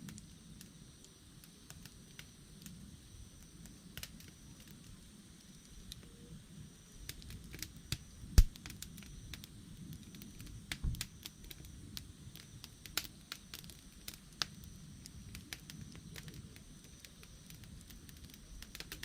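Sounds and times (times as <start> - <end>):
campfire crackling and popping: 0.0 - 19.0
low rumble of burning: 0.0 - 19.0.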